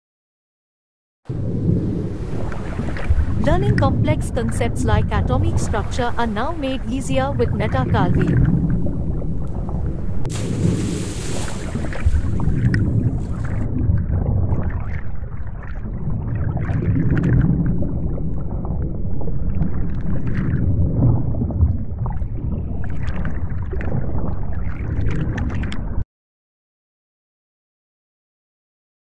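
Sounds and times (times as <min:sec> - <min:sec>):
muffled underwater rush: 0:01.3 - 0:26.0.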